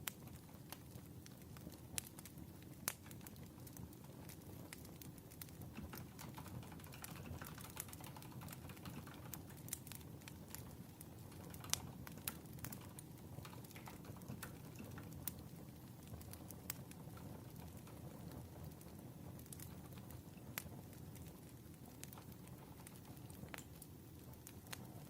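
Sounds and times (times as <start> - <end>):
rumble of burning logs: 0.0 - 25.0
wood fire crackling: 0.0 - 25.0.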